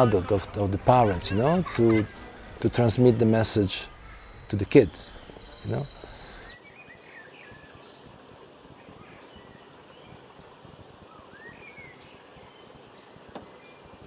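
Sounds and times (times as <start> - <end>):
steady hiss: 0.0 - 14.0
sweeping bird chirps: 1.0 - 14.0.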